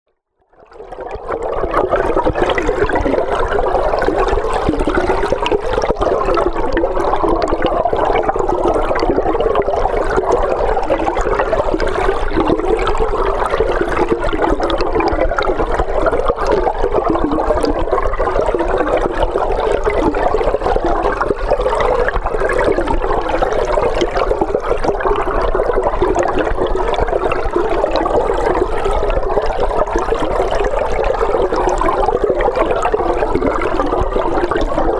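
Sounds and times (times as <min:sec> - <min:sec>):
underwater river rush: 0:00.6 - 0:34.9.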